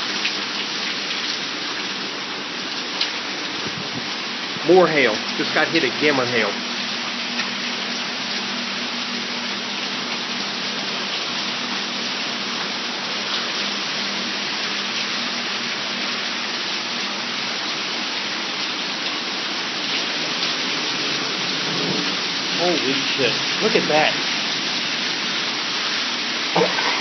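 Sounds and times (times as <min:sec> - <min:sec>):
heavy rain and hail: 0:00.0 - 0:27.0.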